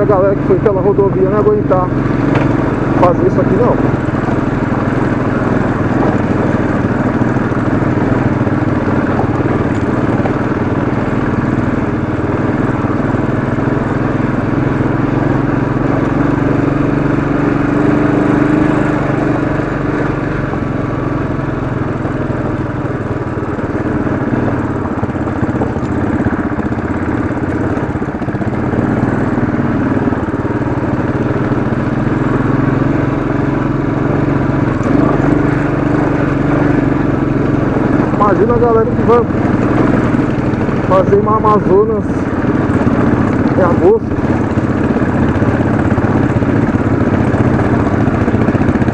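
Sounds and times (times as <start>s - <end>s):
motorcycle engine under load: 0.0s - 48.9s.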